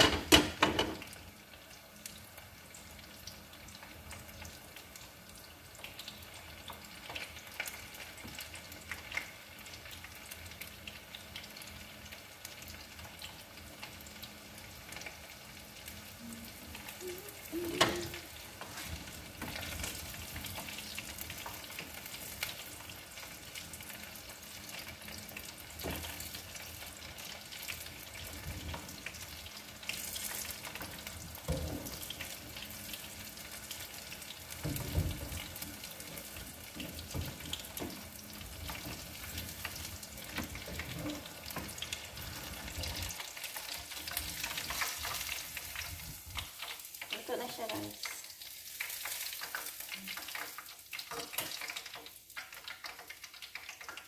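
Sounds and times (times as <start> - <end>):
oil sizzling while deep-frying: 0.0 - 54.0.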